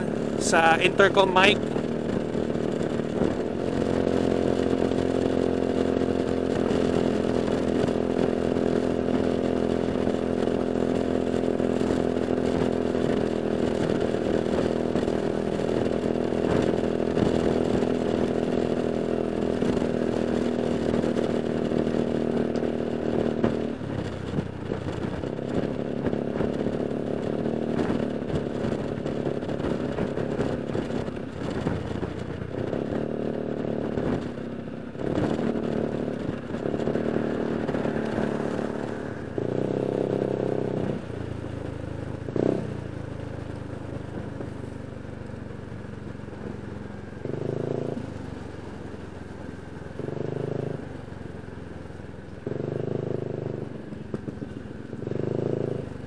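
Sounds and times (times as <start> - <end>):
motor scooter engine running: 0.0 - 56.0.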